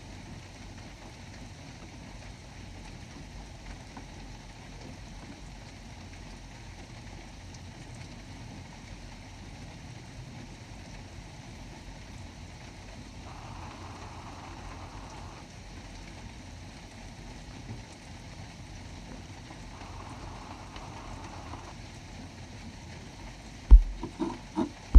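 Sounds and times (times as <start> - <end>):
rain on a tin roof: 0.0 - 23.8.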